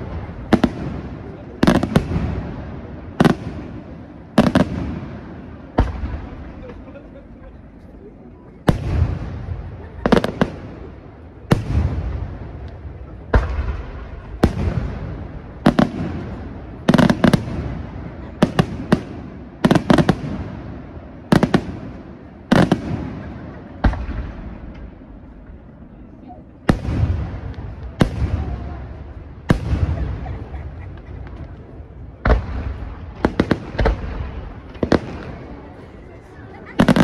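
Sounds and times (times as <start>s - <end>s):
rolling echo: 0.0s - 37.0s.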